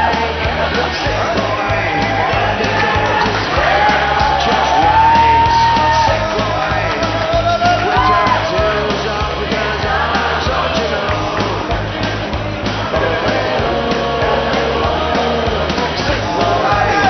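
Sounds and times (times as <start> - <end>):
singing over a steady beat: 0.0 - 17.0.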